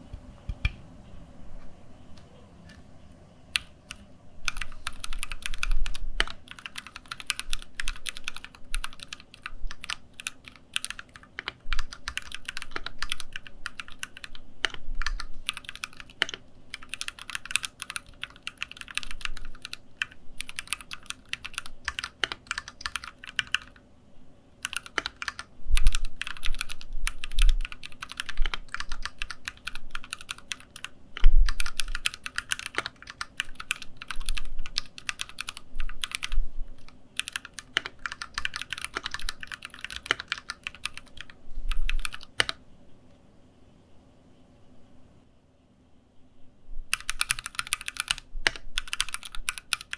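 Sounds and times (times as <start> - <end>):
typing on mechanical keyboard: 3.6 - 23.8, 24.6 - 42.6, 46.9 - 49.9.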